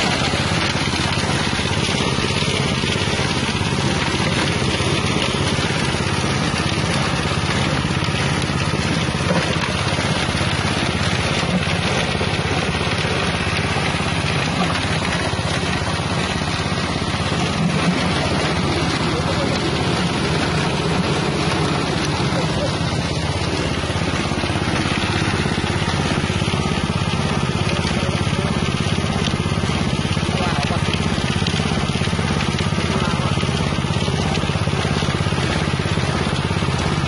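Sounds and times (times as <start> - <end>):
engine-driven grinding mill: 0.0 - 37.0.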